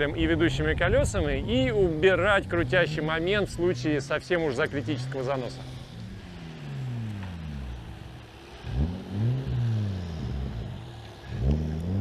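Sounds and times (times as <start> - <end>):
car engine revving: 1.9 - 12.0.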